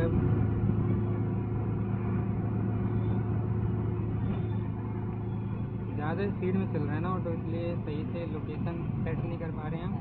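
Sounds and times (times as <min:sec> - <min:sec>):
road noise: 0:00.0 - 0:10.0
small engine droning: 0:00.0 - 0:10.0.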